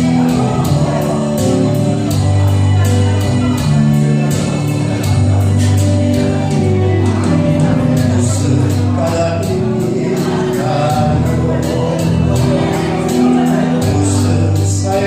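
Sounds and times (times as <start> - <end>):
held instrumental chords: 0.0 - 15.0
person singing: 0.0 - 15.0.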